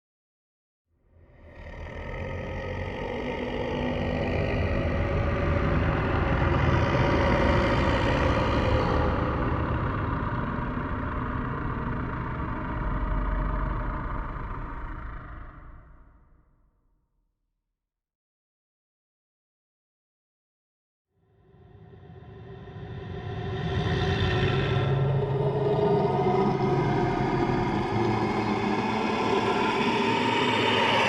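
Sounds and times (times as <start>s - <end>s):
low rumbling growl: 1.1s - 16.8s, 21.4s - 31.0s.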